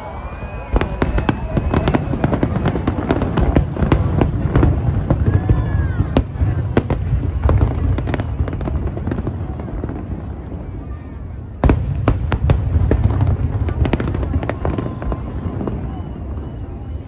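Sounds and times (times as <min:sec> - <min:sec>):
fireworks cracks and bangs: 0:00.0 - 0:17.0.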